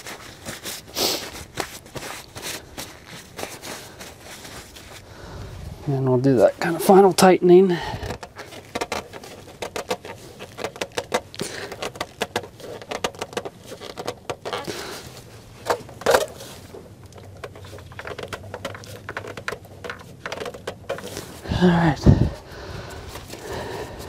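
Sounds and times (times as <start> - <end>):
gloved hands tightening filter: 0.0 - 5.7, 6.6 - 24.0.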